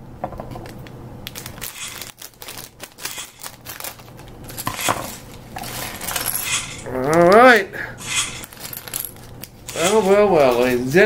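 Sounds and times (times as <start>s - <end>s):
plastic bag crinkling: 0.5s - 7.2s, 8.2s - 11.0s.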